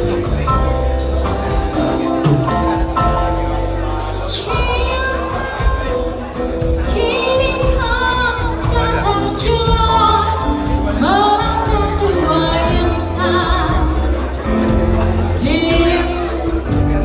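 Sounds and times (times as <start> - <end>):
bass line: 0.0 - 17.0.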